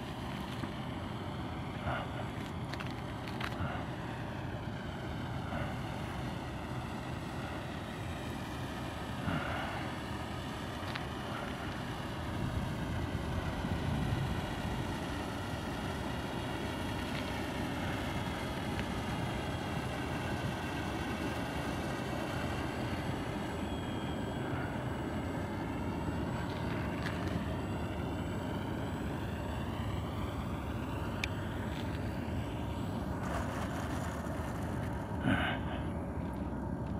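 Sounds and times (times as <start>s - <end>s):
model plane motor droning: 0.0s - 36.9s.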